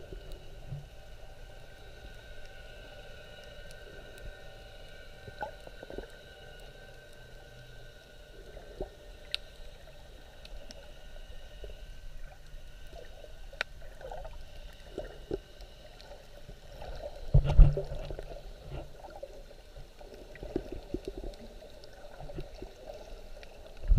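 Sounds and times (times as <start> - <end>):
faint clicks and crackles: 0.0 - 23.9
muffled underwater rumble: 0.0 - 23.9.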